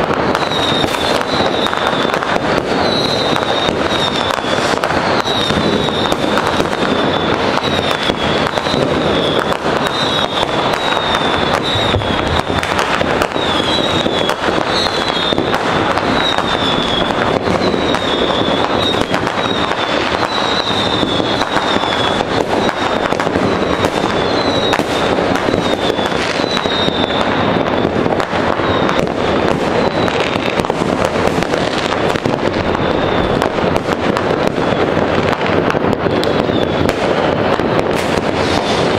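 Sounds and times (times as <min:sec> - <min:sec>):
fireworks bangs and crackles: 0:00.0 - 0:38.9
high firework whistle: 0:00.0 - 0:38.9.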